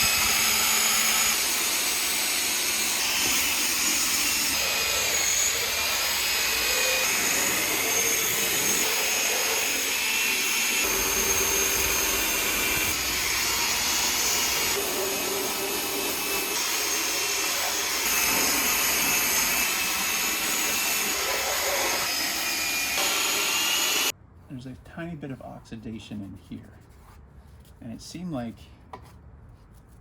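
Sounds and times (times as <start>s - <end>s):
power drill motor whine: 0.0s - 24.1s.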